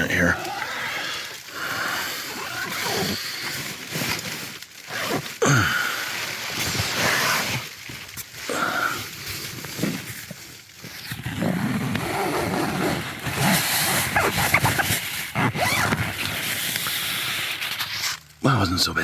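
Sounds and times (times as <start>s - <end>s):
nylon tent fabric rustling: 0.1s - 18.3s
tent zipper being pulled open: 1.5s - 18.2s.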